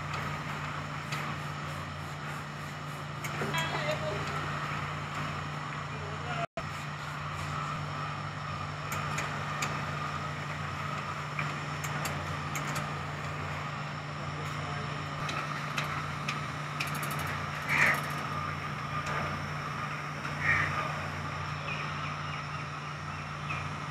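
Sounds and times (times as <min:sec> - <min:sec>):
conveyor mechanical hum: 0:00.0 - 0:23.9.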